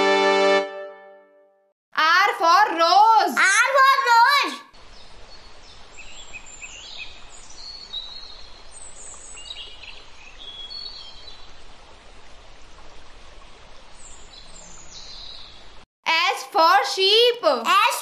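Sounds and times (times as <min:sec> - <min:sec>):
outdoor background hiss: 0:02.6 - 0:18.0.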